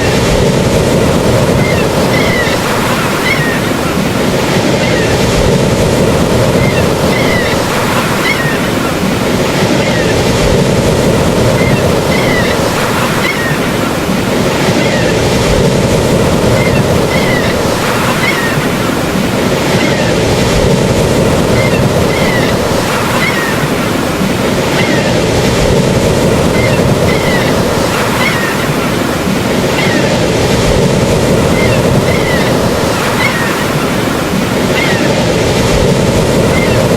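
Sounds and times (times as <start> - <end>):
ocean surf: 0.0 - 36.9.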